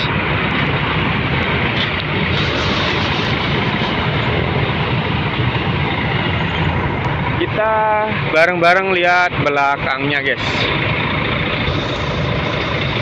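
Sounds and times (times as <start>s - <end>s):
diesel bus engine running: 0.0s - 13.0s.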